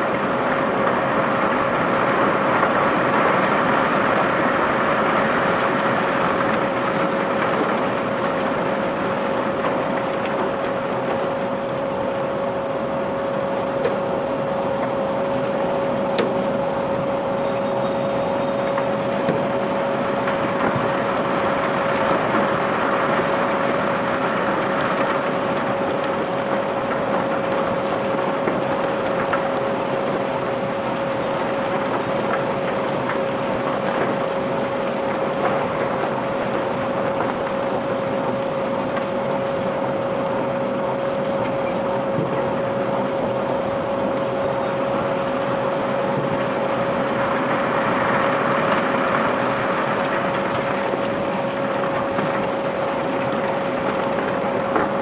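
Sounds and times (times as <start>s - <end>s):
conveyor machinery running: 0.0s - 55.0s.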